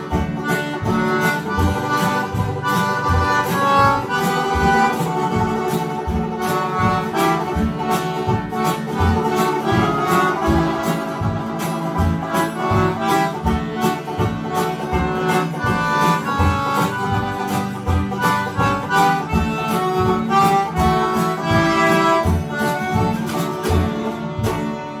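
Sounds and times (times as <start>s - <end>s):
concertina melody: 0.0s - 25.0s
plucked double bass: 0.0s - 25.0s
strummed acoustic guitars: 0.0s - 25.0s.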